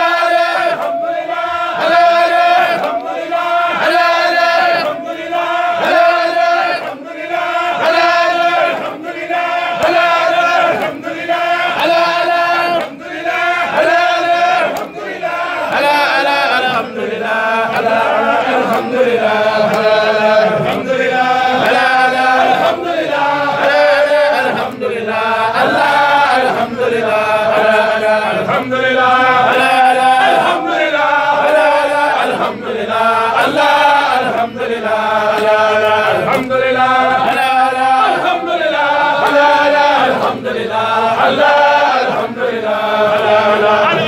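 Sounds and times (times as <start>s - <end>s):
men chanting together: 0.0s - 44.0s.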